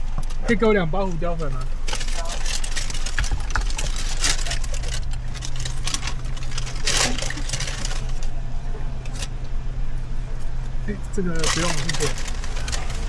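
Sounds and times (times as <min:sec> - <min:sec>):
car engine idling: 0:00.0 - 0:13.0
rustling: 0:00.0 - 0:13.0.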